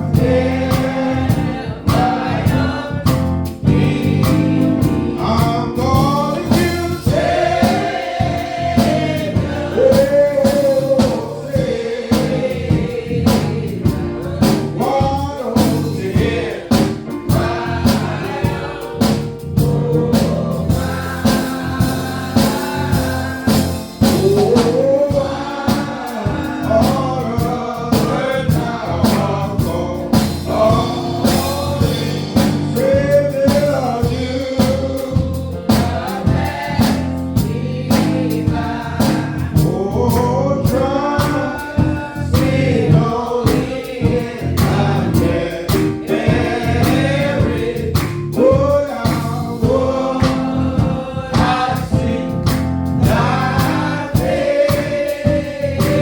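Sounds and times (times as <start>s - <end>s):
bass line: 0.0s - 56.0s
drum beats: 0.0s - 56.0s
gospel choir singing: 0.0s - 56.0s.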